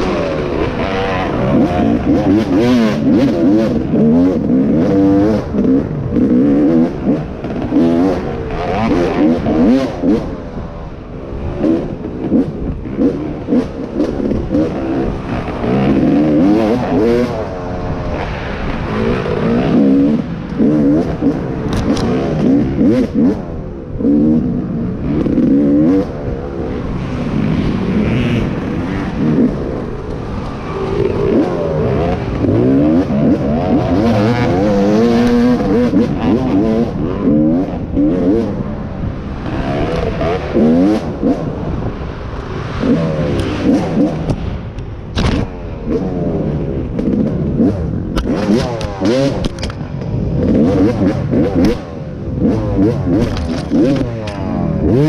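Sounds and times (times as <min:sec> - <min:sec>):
racing engine revving: 0:00.0 - 0:10.7, 0:11.4 - 0:55.0.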